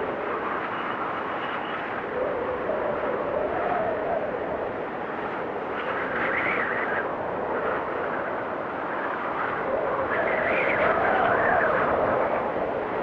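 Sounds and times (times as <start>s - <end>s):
strong wind rushing: 0.0s - 13.0s
wind whistling: 0.0s - 13.0s.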